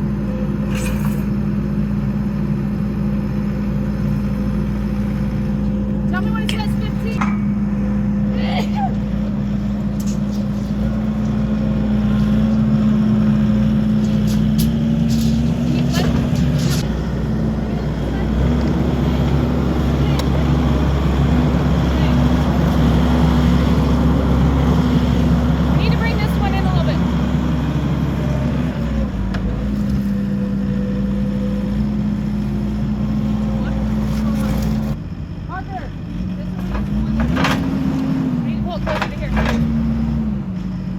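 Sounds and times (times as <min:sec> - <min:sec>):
skid steer engine running: 0:00.0 - 0:40.9.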